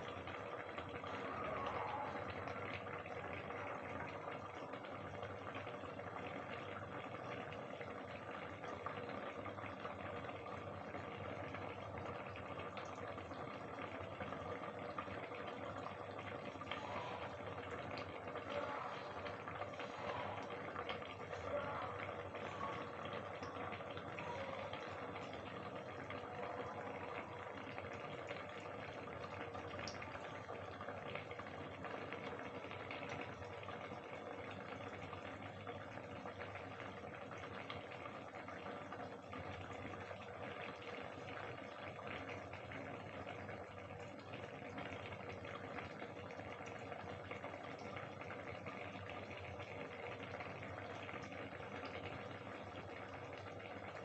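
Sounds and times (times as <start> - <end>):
curry bubbling in covered pan: 0.0 - 54.0.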